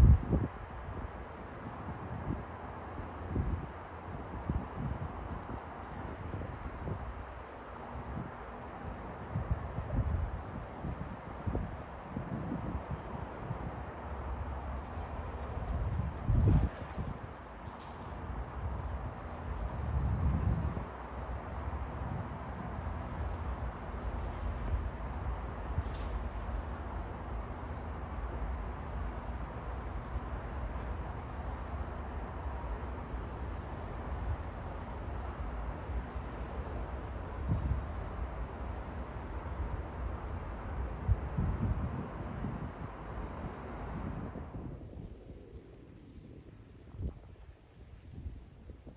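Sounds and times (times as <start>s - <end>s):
insects chirping: 0.0s - 48.9s
wind rumble on microphone: 0.0s - 48.9s.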